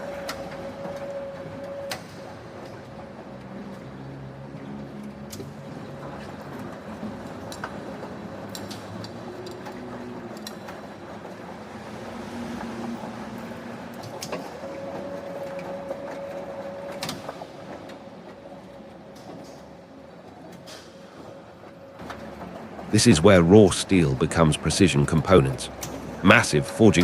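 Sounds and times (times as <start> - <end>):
factory machinery running: 0.0 - 27.0
machine whine: 0.0 - 27.0.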